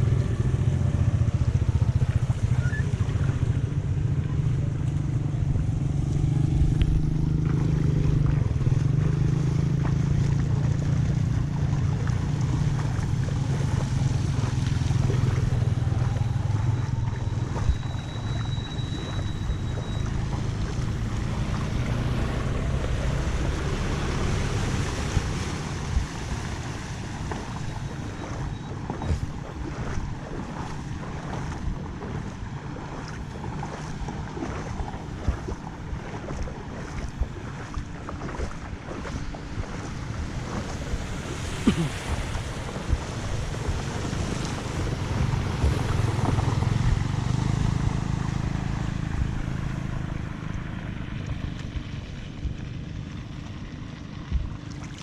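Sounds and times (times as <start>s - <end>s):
flood water rushing: 0.0s - 55.0s
wind buffeting microphone: 0.0s - 55.0s.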